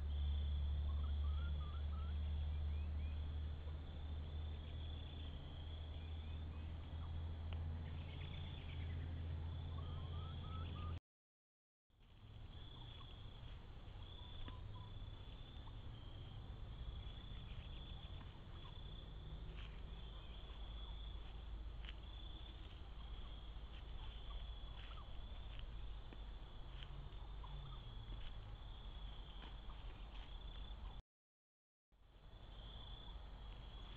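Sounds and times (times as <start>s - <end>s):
insects chirping: 0.0s - 7.2s, 12.1s - 31.0s, 32.2s - 33.9s.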